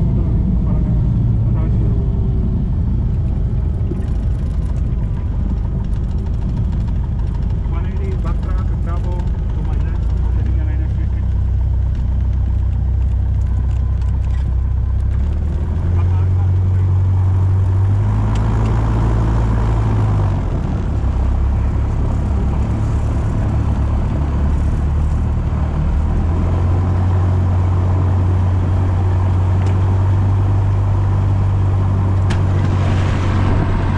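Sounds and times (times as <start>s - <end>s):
propeller plane engine: 0.0s - 33.9s.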